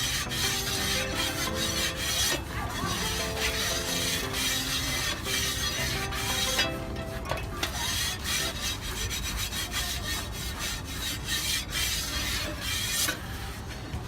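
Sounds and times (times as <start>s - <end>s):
scraping on a hot griddle: 0.0s - 13.7s.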